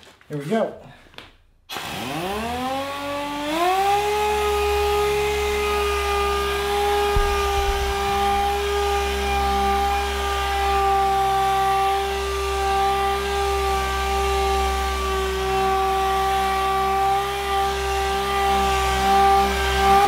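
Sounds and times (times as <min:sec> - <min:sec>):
air-powered orbital sander whining: 0:01.7 - 0:20.0.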